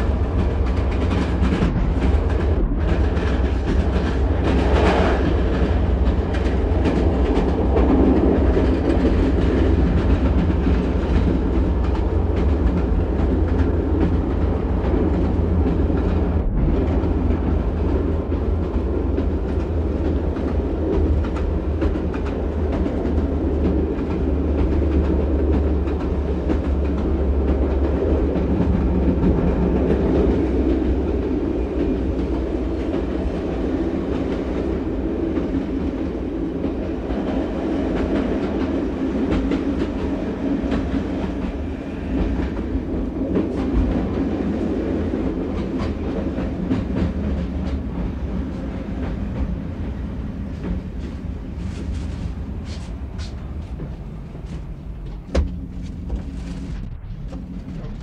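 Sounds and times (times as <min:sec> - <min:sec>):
diesel railcar rumbling: 0:00.0 - 0:58.0.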